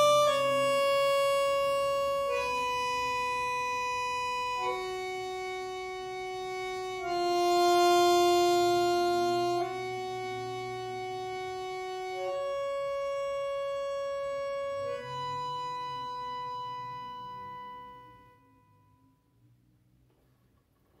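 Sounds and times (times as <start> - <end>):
bandoneon sustained notes: 0.0 - 18.9.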